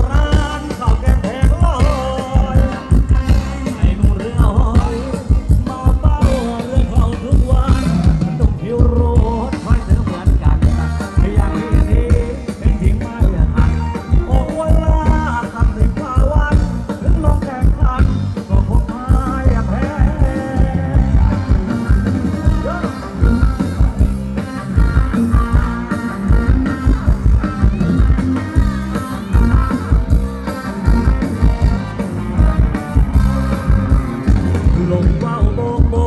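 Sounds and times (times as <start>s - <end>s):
bass: 0.0s - 36.0s
dance band over loudspeakers: 0.0s - 36.0s
person singing: 0.0s - 36.0s
steady drum beat: 0.0s - 36.0s.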